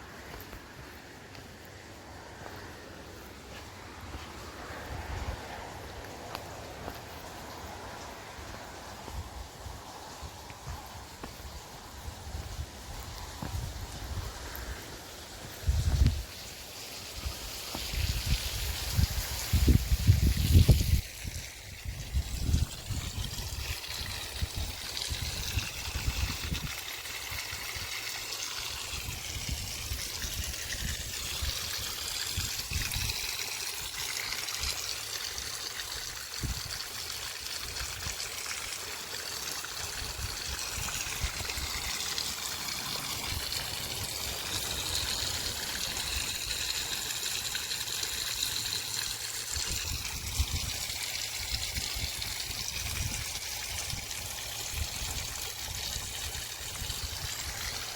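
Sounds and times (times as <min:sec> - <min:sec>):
water trickling and flowing: 0:00.0 - 0:57.9.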